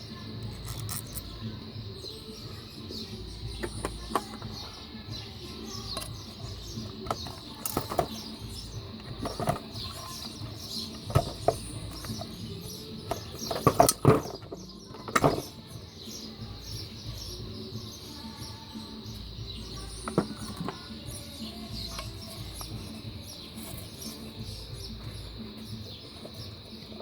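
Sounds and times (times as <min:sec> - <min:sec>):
high-pitched background hum: 0:00.0 - 0:26.8.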